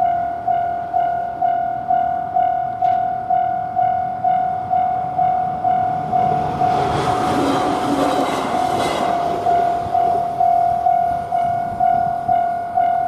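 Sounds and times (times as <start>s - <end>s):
railroad crossing bell ringing: 0.0s - 13.0s
train rumble and wheel clatter: 0.0s - 13.0s.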